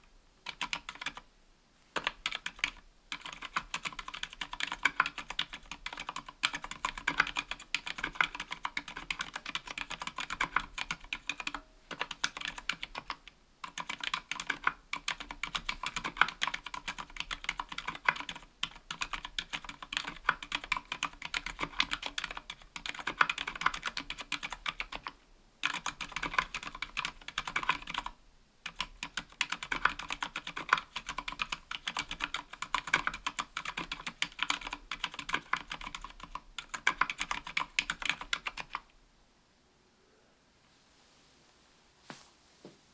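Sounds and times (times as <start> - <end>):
soft mechanical keyboard typing: 0.0 - 1.3, 1.9 - 38.9.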